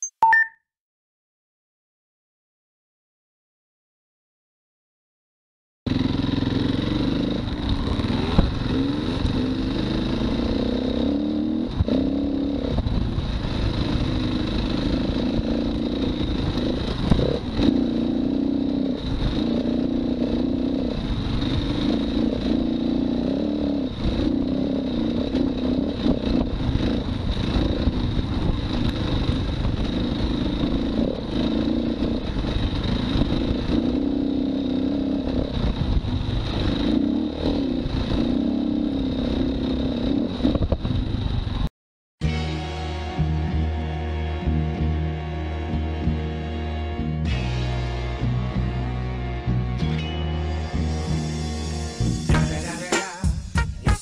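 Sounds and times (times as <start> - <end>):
dirt bike engine revving: 5.9 - 41.6, 42.2 - 53.0.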